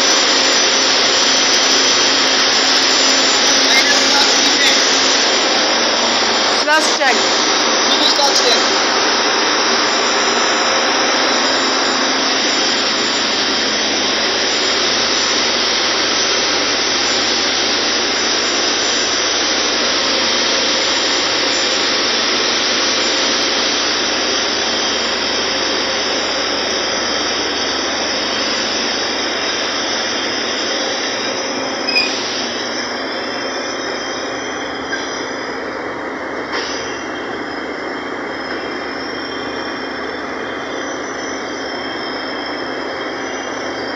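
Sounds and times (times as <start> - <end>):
faint high whine: 0.0 - 43.9
ship engine room machinery: 0.0 - 43.9.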